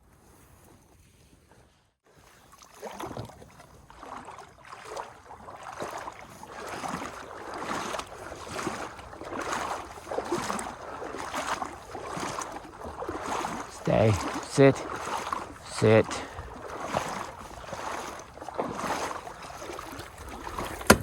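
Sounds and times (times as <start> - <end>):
water swishing and sloshing: 0.1 - 21.0.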